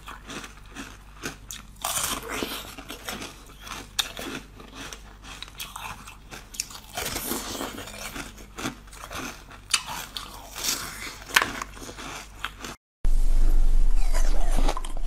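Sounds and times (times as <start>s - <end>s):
ice crunching between teeth: 0.0s - 12.8s.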